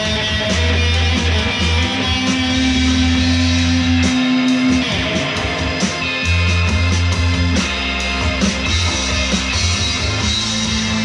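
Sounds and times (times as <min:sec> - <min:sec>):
deep bass line: 0:00.0 - 0:11.0
electric guitar through amplifier: 0:00.0 - 0:11.0.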